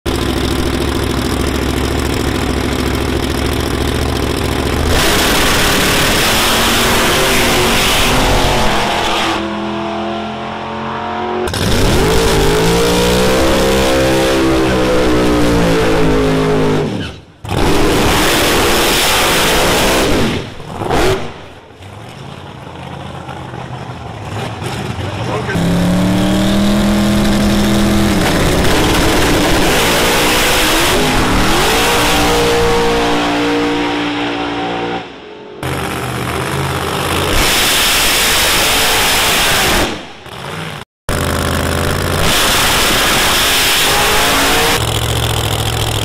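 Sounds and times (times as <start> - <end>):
drag racing engine: 0.1 - 46.0.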